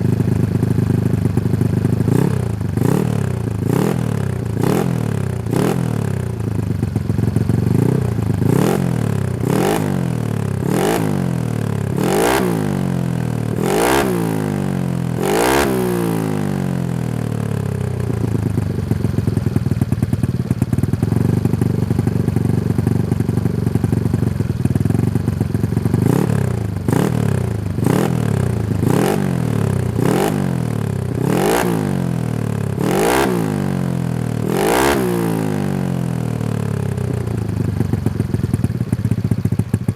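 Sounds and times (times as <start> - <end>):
motor scooter engine revving: 0.0 - 39.9.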